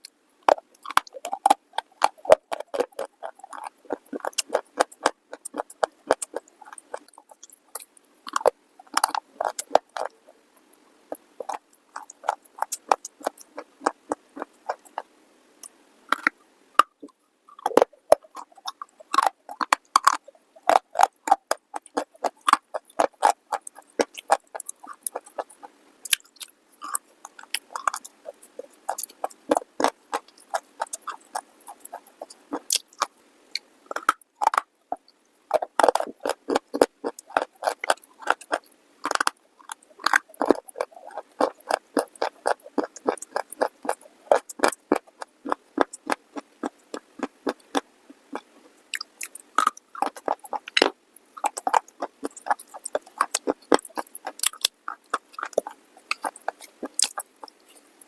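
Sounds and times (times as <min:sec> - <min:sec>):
chewing brittle crunches: 0:00.4 - 0:10.3, 0:11.1 - 0:15.1, 0:16.1 - 0:33.2, 0:33.9 - 0:58.0.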